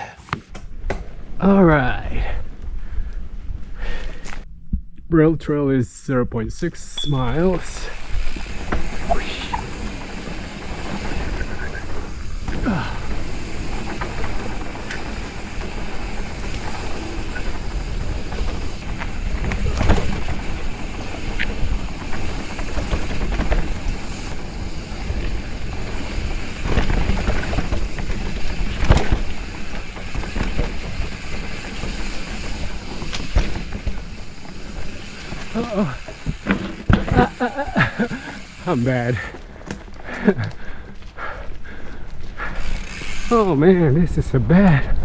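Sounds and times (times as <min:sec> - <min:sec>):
bike tyres on loose dirt: 0:00.6 - 0:05.7, 0:06.4 - 0:45.0
bike clattering over bumps: 0:07.4 - 0:44.1.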